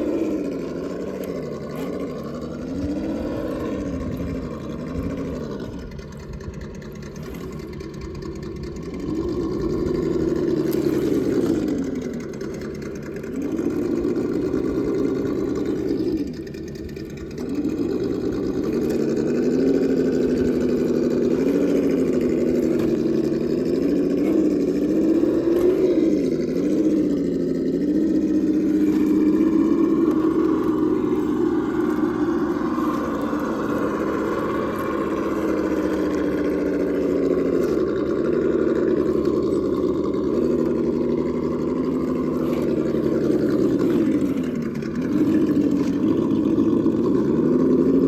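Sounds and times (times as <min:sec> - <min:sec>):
electric motor and gears whining: 0:00.0 - 0:48.0.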